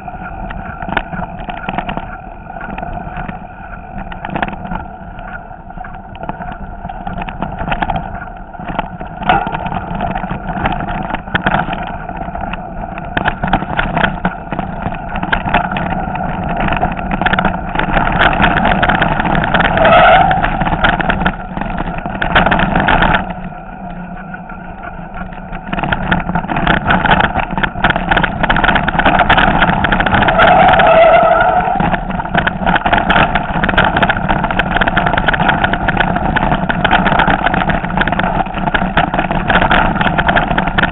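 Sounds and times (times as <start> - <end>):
mountain bike rattling over stones: 0.0 - 40.9.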